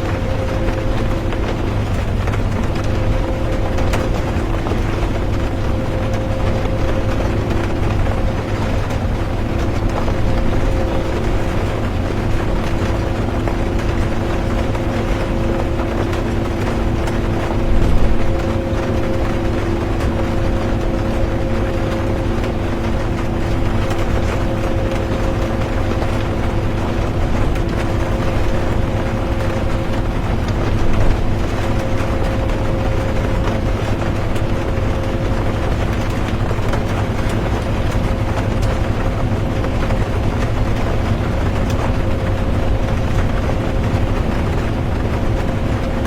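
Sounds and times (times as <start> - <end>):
bus engine and road rumble: 0.0 - 46.0
rain: 0.0 - 46.0.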